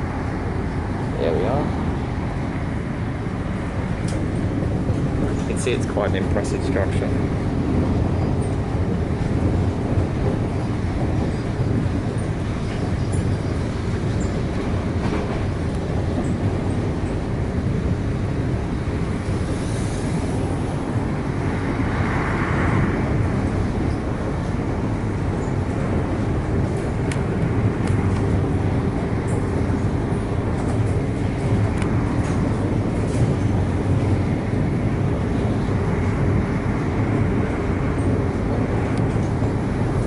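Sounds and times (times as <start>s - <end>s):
train wheels rumbling: 0.0s - 40.0s.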